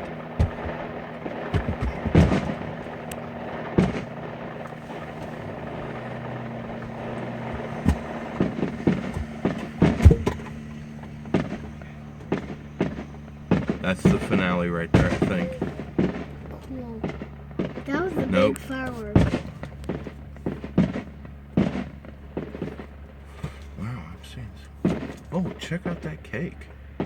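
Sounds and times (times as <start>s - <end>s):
fireworks bursting: 0.0s - 27.0s
steady low hum: 0.0s - 27.0s.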